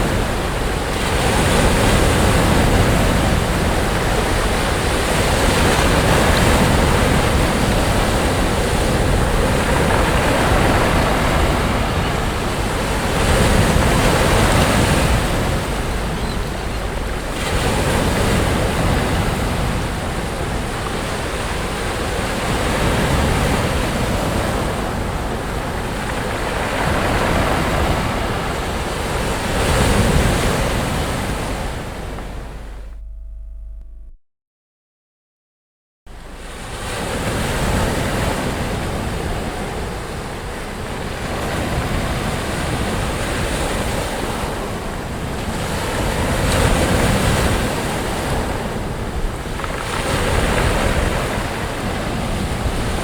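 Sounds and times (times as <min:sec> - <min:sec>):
sea waves breaking on beach: 0:00.0 - 0:32.8, 0:36.3 - 0:53.0.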